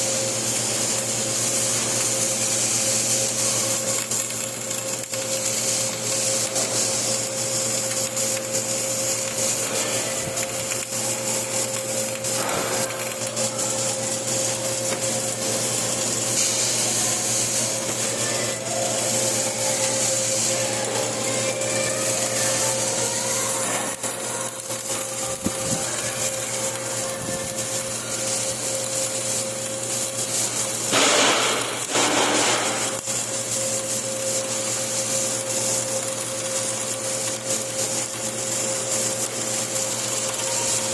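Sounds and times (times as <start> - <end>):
welding arc crackling and hissing: 0.0 - 40.9
welding machine hum: 0.0 - 40.9.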